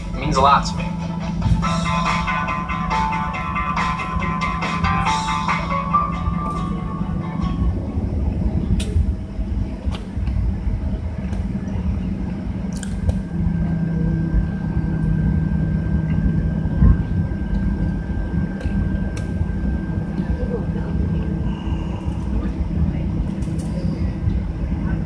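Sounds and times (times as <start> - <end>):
aircraft cabin rumble and hum: 0.0 - 25.0
thin steady whine: 0.0 - 25.0.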